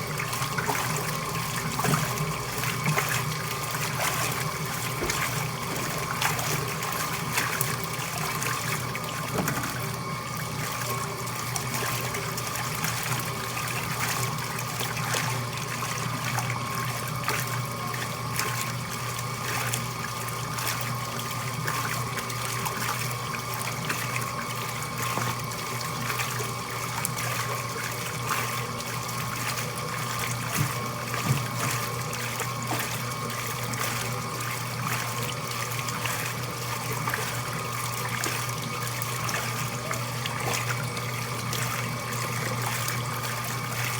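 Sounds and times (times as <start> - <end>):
laundry machine motor humming: 0.0 - 43.9
water trickling and splashing: 0.0 - 43.9.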